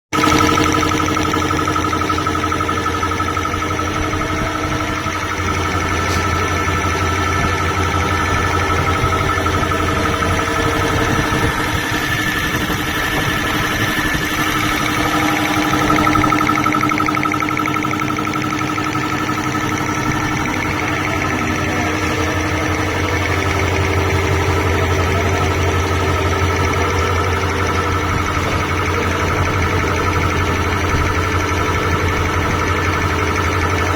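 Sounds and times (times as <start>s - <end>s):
air compressor running: 0.1s - 33.9s.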